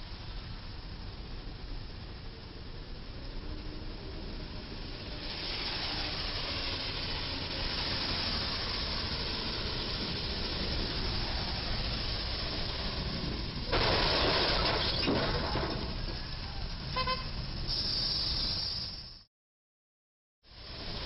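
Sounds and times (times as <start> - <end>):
tyres hissing on wet road: 0.0 - 19.3, 20.5 - 21.0.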